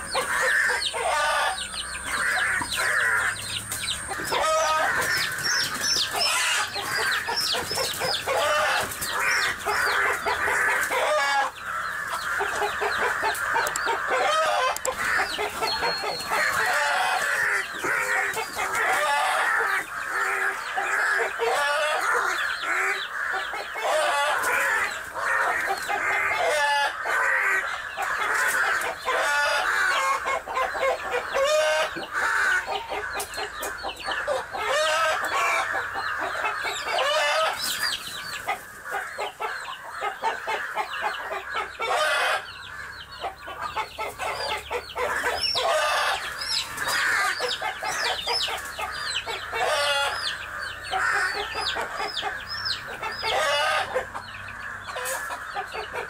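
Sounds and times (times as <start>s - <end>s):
chicks peeping: 0.0s - 56.0s
hen clucking and squawking: 0.0s - 56.0s.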